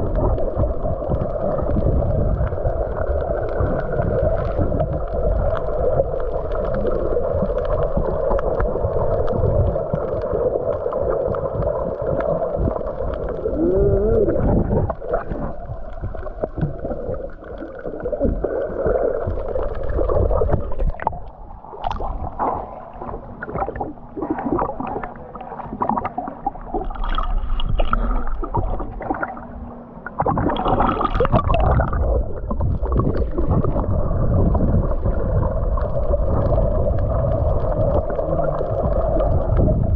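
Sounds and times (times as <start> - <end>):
muffled water gurgling: 0.0 - 39.9.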